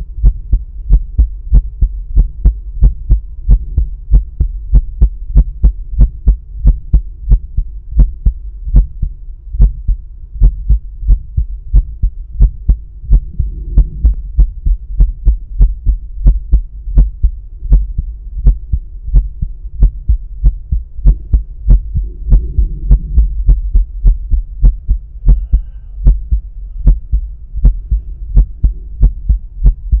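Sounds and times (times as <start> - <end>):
faint steady hum: 0.0 - 30.0
heartbeat through stethoscope: 0.0 - 30.0.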